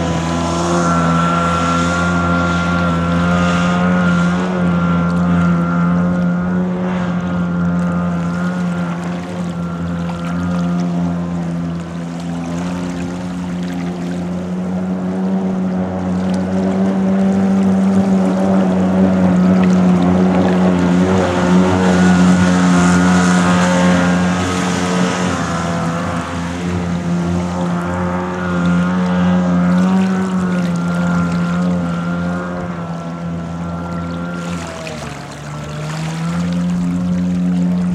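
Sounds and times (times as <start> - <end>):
jet boat engine at high throttle: 0.0 - 37.9.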